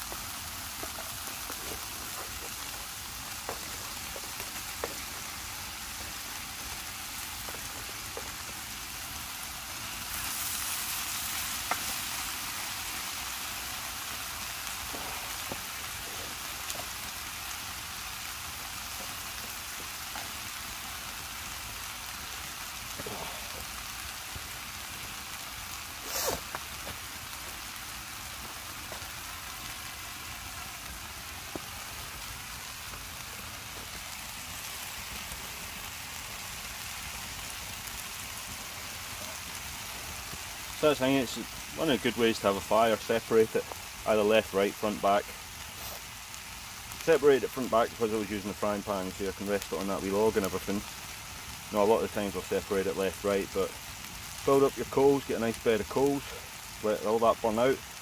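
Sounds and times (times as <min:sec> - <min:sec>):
campfire pop: 0:00.0 - 0:58.0
food sizzling in frying pan: 0:00.0 - 0:58.0.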